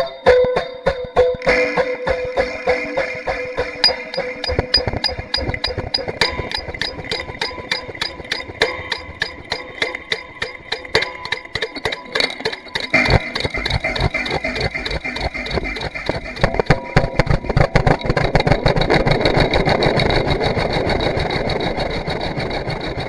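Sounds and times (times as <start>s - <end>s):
mechanical clicking and rattling: 2.3s - 23.0s.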